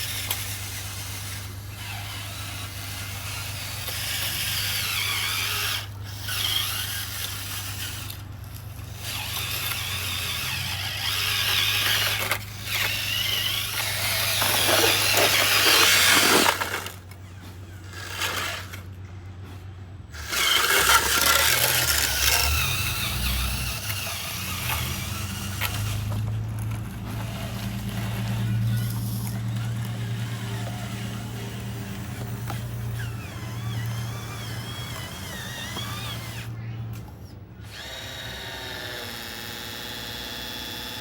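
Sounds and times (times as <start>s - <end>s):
small electric motors whining: 0.0s - 19.0s, 20.1s - 41.0s.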